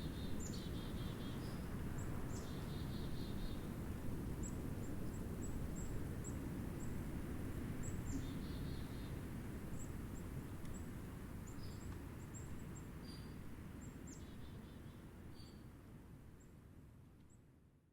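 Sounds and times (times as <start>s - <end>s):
low rumble of wind: 0.0s - 17.8s.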